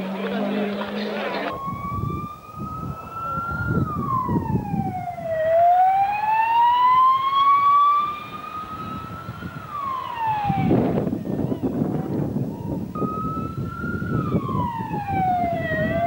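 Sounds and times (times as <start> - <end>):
slow wailing siren: 1.4 - 16.0.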